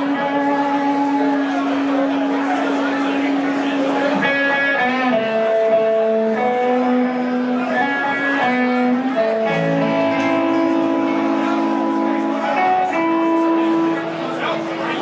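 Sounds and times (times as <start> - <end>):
punk rock band playing live: 0.0 - 14.8.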